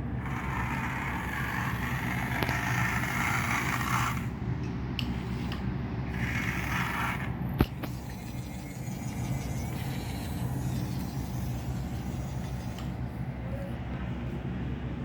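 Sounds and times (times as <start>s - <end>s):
toy motors whirring: 0.2s - 4.4s, 5.0s - 13.2s.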